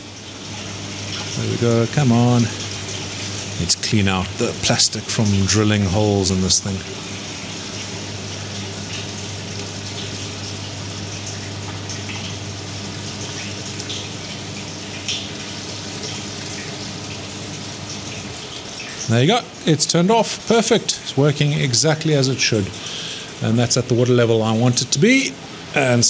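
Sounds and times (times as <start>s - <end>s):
low pump hum: 0.0s - 26.0s
water bubbling and gurgling: 0.0s - 26.0s.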